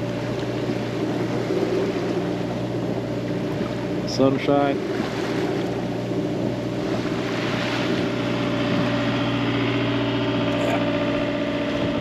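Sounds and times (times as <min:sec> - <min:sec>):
boat engine droning: 0:00.0 - 0:12.0
wind: 0:00.0 - 0:12.0.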